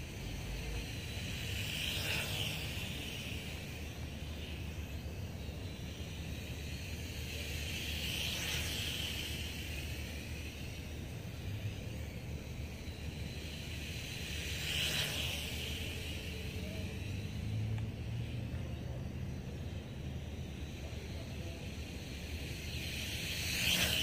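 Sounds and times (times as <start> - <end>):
quadcopter propeller whine: 0.0 - 24.0.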